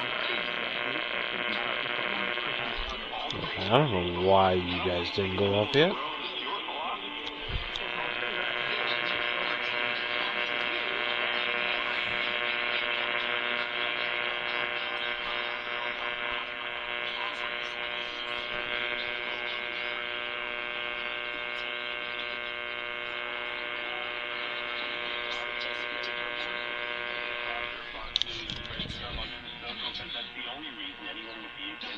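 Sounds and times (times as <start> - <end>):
electrical buzz through radio: 0.0 - 31.9.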